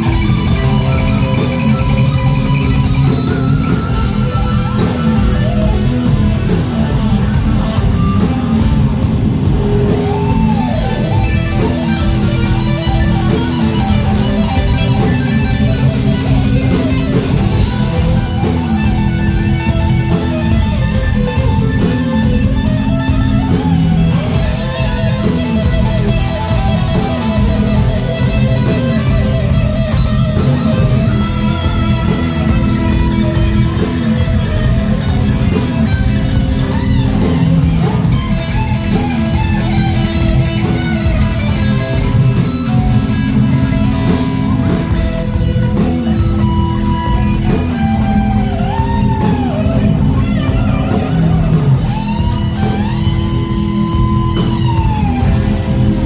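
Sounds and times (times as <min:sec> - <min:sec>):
electric guitar lead with bending notes: 0:00.0 - 0:56.0
rock band playing: 0:00.0 - 0:56.0.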